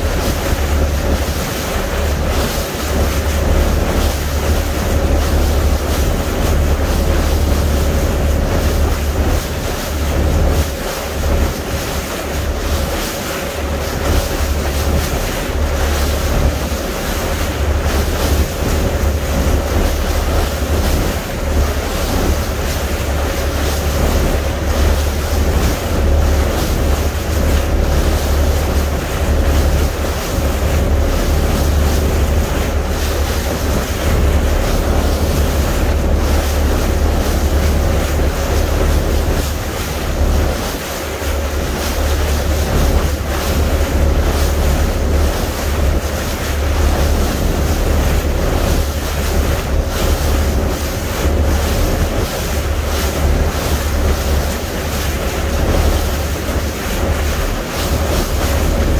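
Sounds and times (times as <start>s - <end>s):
sea water rushing: 0.0s - 58.9s
wind buffeting microphone: 0.0s - 58.9s.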